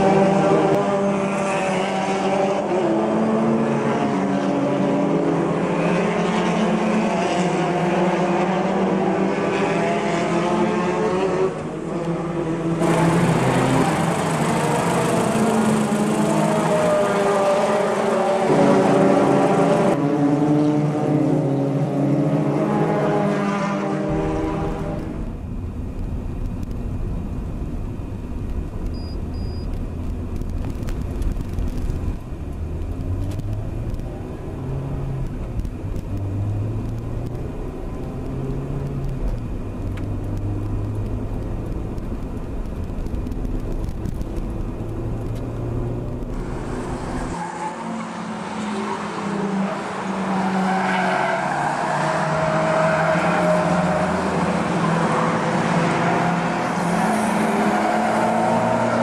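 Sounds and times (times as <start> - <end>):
engines revving trackside: 0.0 - 27.2, 28.1 - 59.0.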